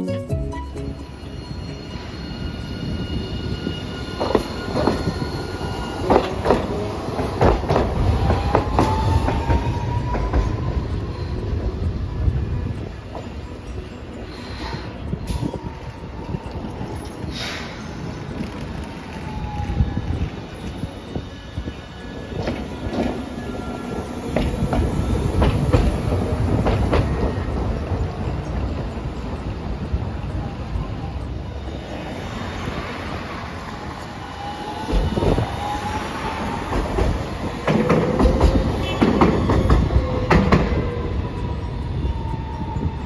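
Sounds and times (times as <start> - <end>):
tram rumble: 0.0 - 43.0
steady squeal-like tone: 0.6 - 43.0
tram wheels clacking over rail joints: 0.7 - 43.0.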